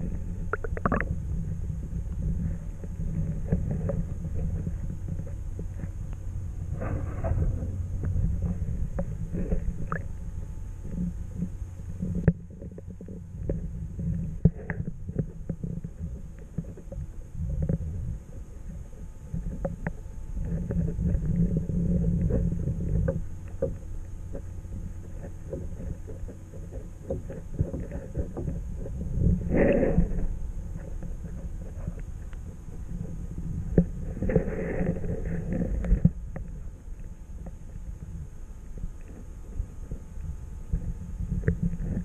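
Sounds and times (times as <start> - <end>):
muffled underwater water rumble: 0.0 - 42.0.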